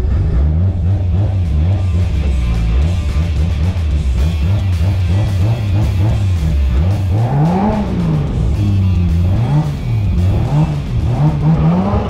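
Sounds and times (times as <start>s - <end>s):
car engine idling and revving: 0.0s - 12.0s
music: 0.0s - 12.0s.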